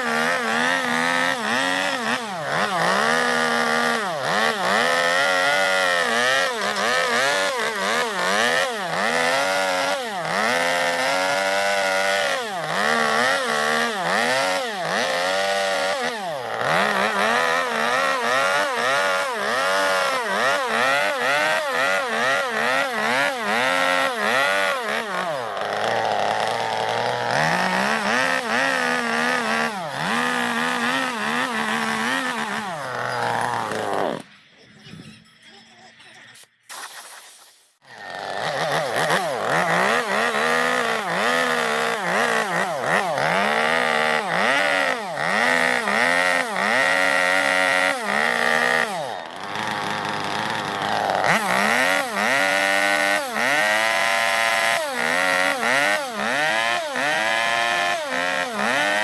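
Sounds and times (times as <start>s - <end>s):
chainsaw revving: 0.0s - 34.3s, 37.8s - 59.0s.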